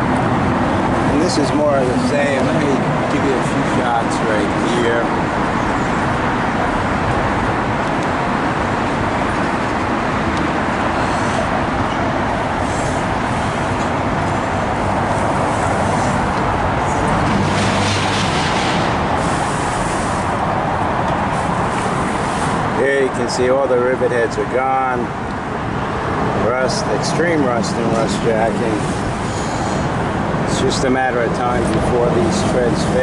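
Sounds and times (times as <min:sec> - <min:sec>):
faint engine hum: 0:00.0 - 0:33.0
passing cars: 0:00.0 - 0:33.0.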